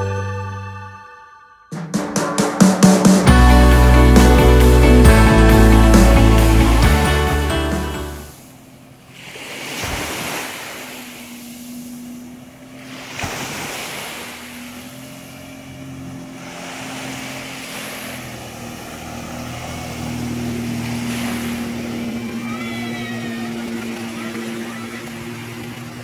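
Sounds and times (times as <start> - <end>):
jet ski engine droning: 2.8 - 26.0
rushing water spray: 3.3 - 26.0.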